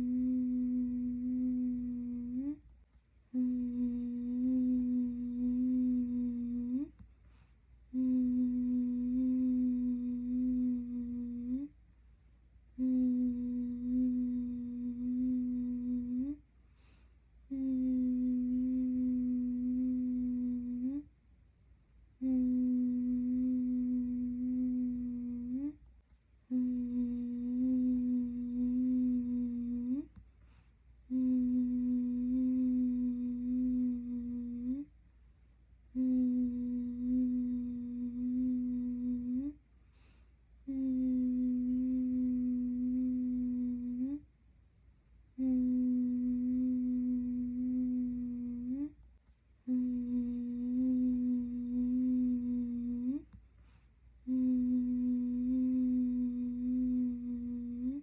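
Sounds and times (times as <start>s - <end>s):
person humming low note: 0.0s - 2.6s, 3.3s - 7.0s, 7.9s - 11.8s, 12.7s - 16.4s, 17.4s - 21.1s, 22.2s - 25.8s, 26.5s - 30.2s, 31.0s - 34.9s, 35.9s - 39.6s, 40.6s - 44.3s, 45.4s - 49.0s, 49.6s - 53.4s, 54.2s - 58.0s.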